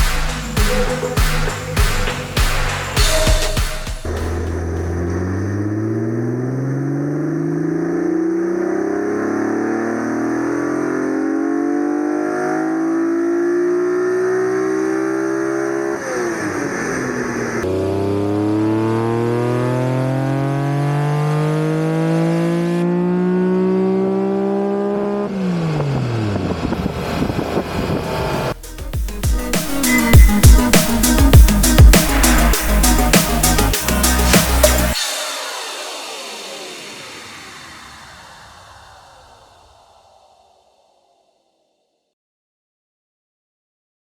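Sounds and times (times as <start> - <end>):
car engine revving at full throttle: 4.0 - 39.8.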